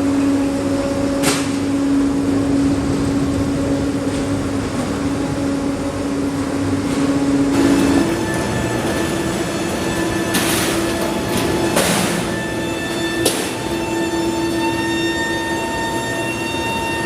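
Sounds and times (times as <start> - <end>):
heavy machinery humming: 0.0 - 17.0.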